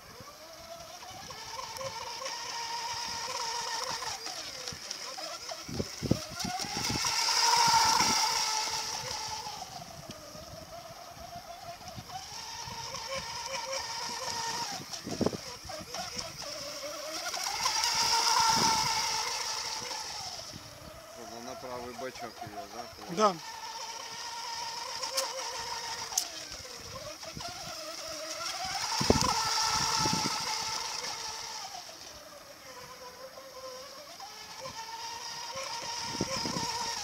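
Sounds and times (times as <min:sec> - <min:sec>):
electric motor whining: 0:00.0 - 0:37.0
boat spray hissing: 0:01.1 - 0:10.4, 0:12.0 - 0:37.0.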